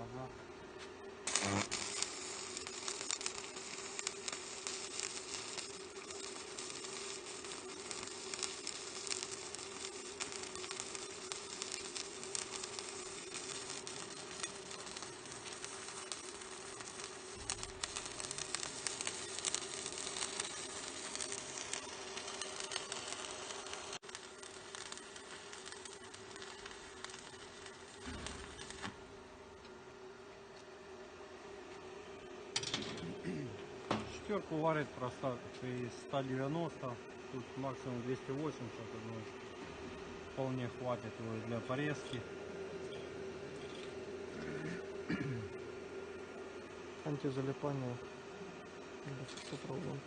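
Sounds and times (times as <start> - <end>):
steady hum: 0.0 - 50.0
welding arc sizzling crackle: 1.0 - 30.8, 31.4 - 50.0.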